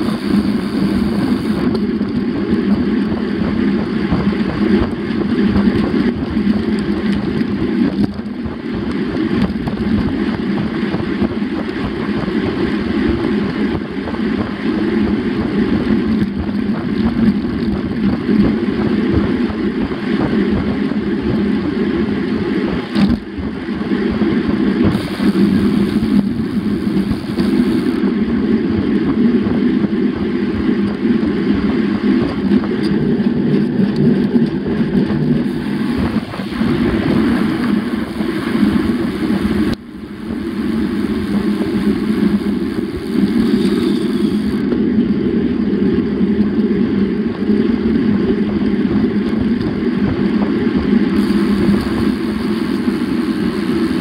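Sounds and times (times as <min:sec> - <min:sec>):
wind rush: 0:00.0 - 0:54.0.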